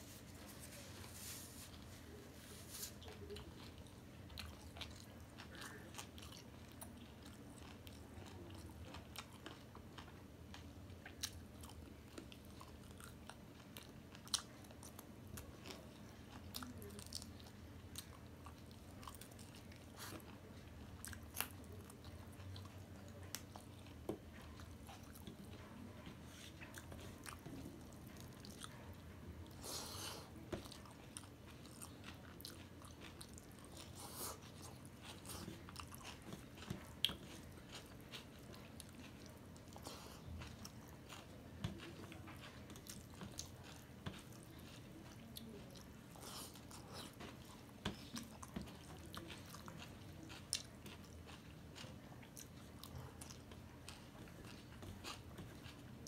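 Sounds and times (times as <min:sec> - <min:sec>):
faint steady hum: 0:00.0 - 0:56.0
chewing and biting: 0:02.8 - 0:56.0.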